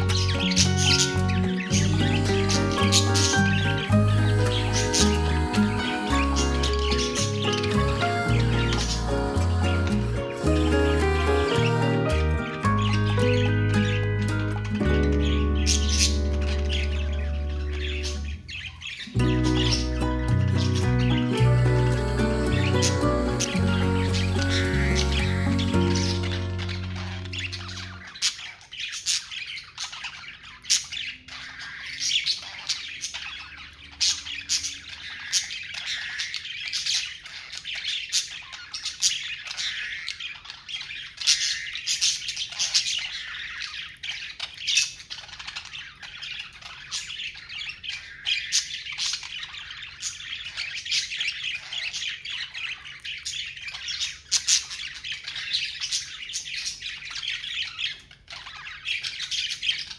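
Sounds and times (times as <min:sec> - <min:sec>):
budgerigars chattering and squawking: 0:00.0 - 0:59.9.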